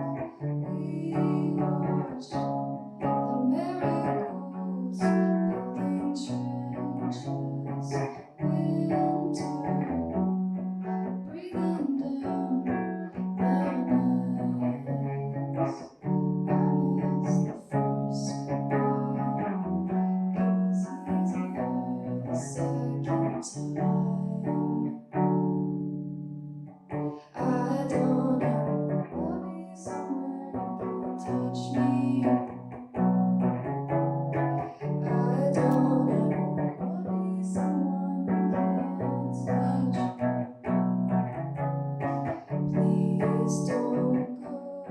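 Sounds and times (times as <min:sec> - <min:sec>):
person singing: 0:00.0 - 0:25.4, 0:26.9 - 0:44.9.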